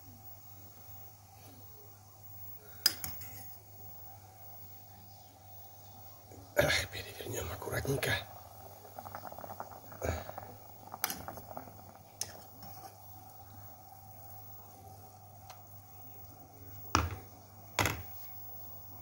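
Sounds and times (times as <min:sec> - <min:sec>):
water boiling in a pot: 0:00.0 - 0:19.0.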